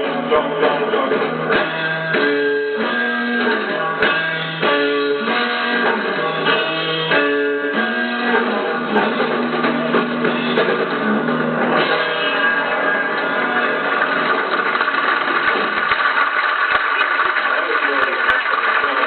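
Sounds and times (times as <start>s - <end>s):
electric guitar riff: 0.0s - 19.0s
rock drums: 0.0s - 19.0s.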